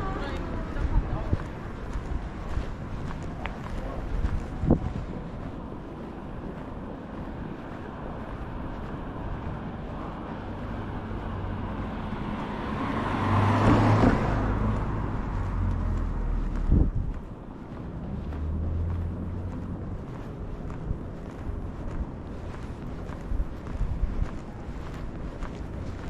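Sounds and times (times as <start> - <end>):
car passing: 0.0 - 26.0
street noise: 0.0 - 26.0.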